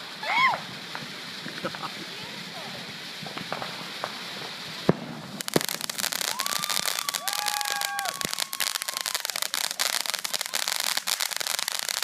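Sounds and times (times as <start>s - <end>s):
firework crackling: 0.0s - 12.0s
firework whistles: 0.0s - 12.0s.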